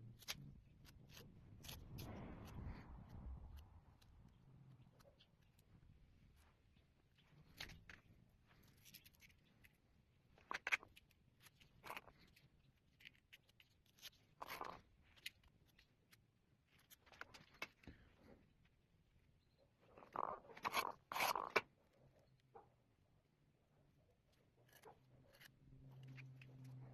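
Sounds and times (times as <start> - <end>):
clicks and scrapes of handling: 0.0 - 18.8, 19.8 - 22.7, 24.2 - 26.9.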